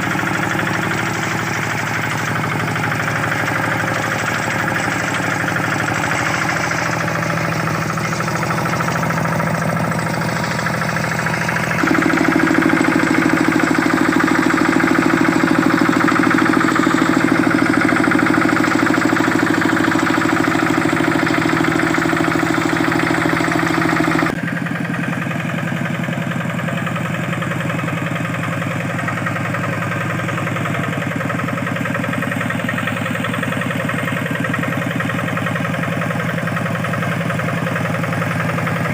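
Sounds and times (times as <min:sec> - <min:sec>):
diesel engine pulsing: 0:00.0 - 0:38.9.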